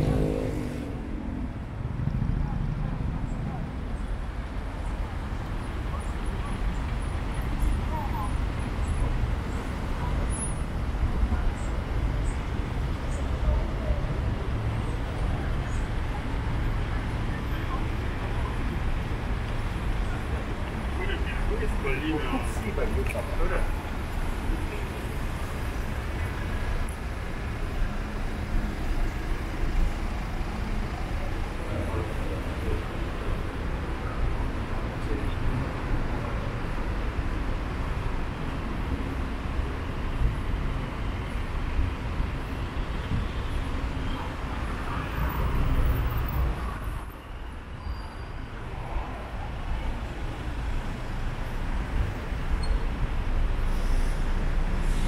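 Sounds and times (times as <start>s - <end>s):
background hubbub: 0.0s - 55.0s
low rumble of traffic: 0.0s - 55.0s
street noise: 0.0s - 55.0s.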